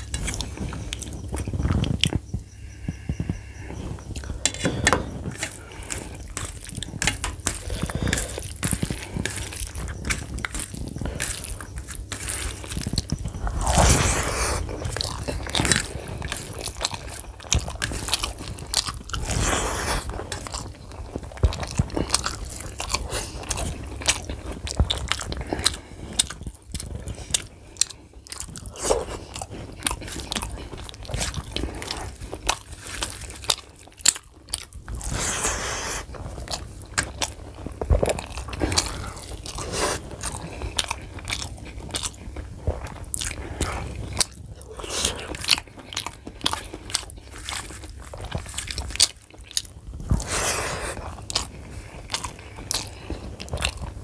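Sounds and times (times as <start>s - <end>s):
fingers squishing rice and curry: 0.0s - 54.0s
person chewing and biting: 4.0s - 54.0s.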